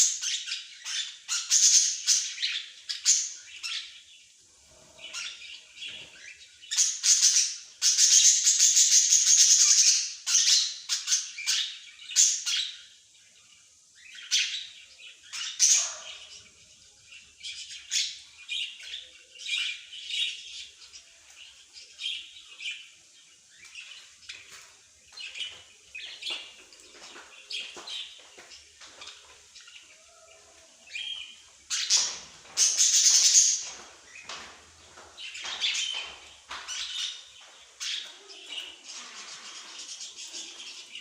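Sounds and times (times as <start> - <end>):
songbirds chirping and singing: 0.0 - 41.0.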